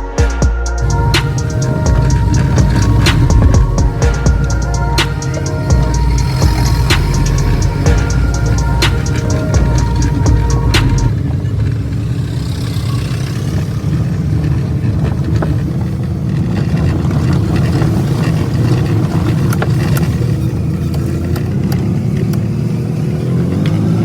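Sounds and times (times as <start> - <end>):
car engine and road noise: 0.6 - 24.0.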